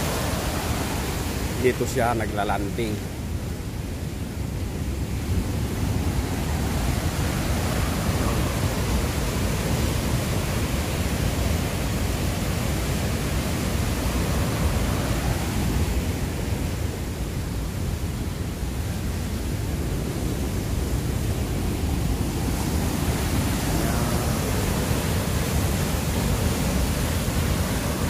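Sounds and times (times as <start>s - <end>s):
rushing white water: 0.0s - 28.0s.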